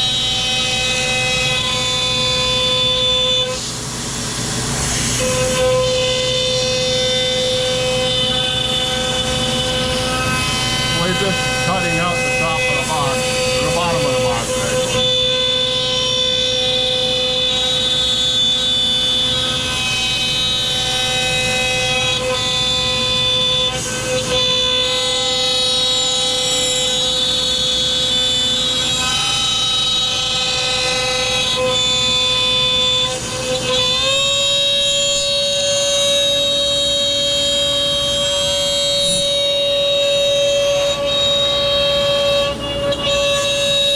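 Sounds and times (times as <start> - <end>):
cnc router spindle whining: 0.0 - 43.9
router bit cutting wood: 0.0 - 43.9.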